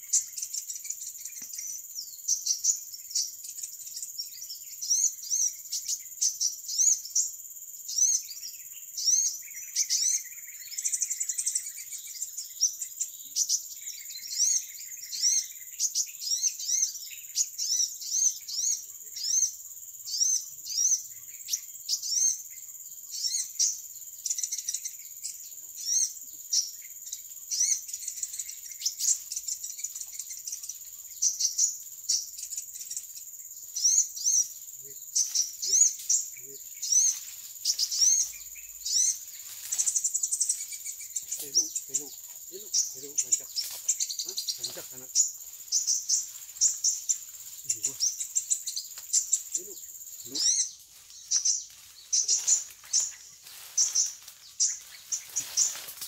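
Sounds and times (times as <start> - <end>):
high insect drone: 0.0 - 56.0
small birds chirping: 0.0 - 56.0.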